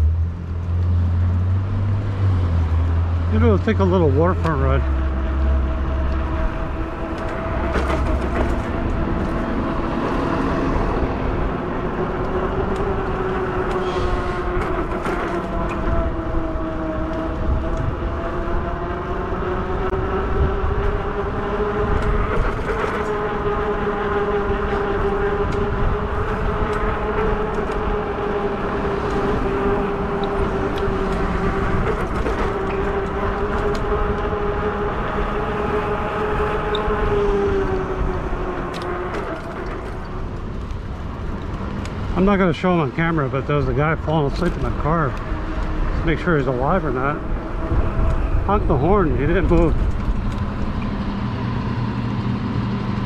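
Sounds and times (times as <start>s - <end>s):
electric bike motor whine: 4.8s - 42.1s, 44.9s - 53.0s.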